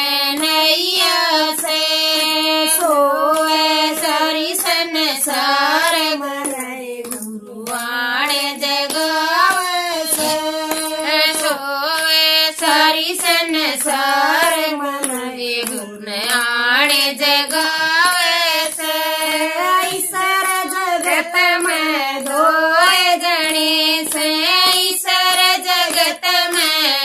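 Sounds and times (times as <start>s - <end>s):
hand claps: 0.0s - 27.0s
women singing together: 0.0s - 27.0s.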